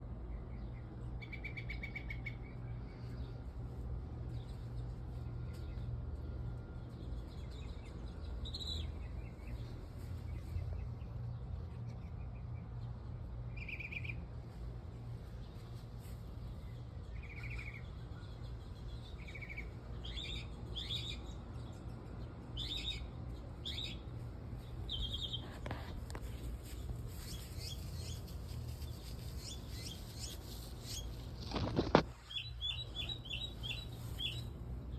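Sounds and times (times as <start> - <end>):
steady low hum: 0.0 - 34.9
birds chirping: 0.1 - 34.9.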